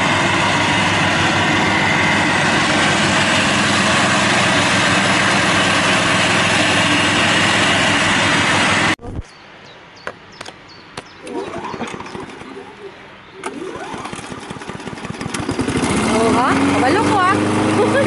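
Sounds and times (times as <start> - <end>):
riding lawn mower engine: 0.0 - 9.0, 11.2 - 18.0.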